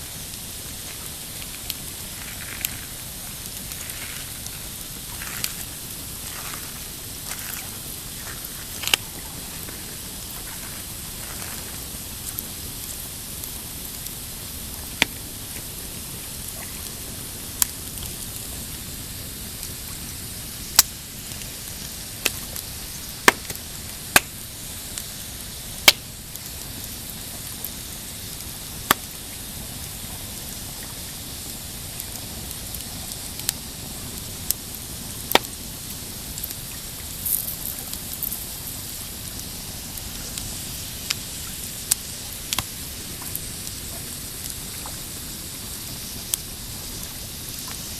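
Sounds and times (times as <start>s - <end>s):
campfire crackling: 0.0s - 47.9s
steady hiss: 0.0s - 47.9s.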